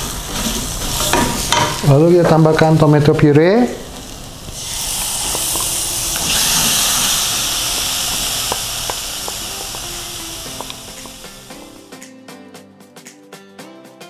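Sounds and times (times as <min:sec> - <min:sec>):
tomato puree sizzling in oil: 0:00.0 - 0:12.0.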